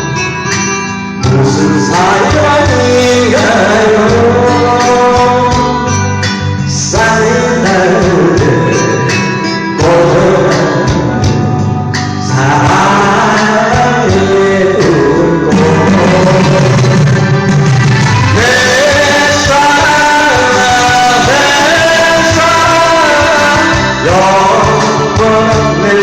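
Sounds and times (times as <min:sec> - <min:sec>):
band accompaniment: 0:00.0 - 0:26.0
man singing slow pop song: 0:01.2 - 0:17.6, 0:18.3 - 0:26.0.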